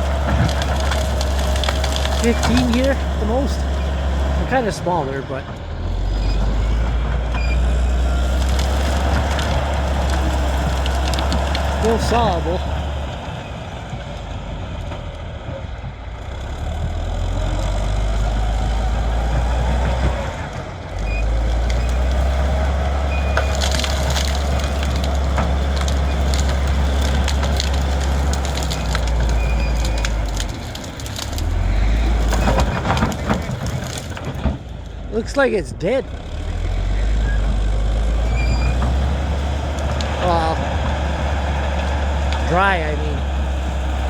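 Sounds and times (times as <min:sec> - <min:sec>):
bulldozer diesel engine: 0:00.0 - 0:44.0
wood cracking and splintering: 0:00.0 - 0:44.0.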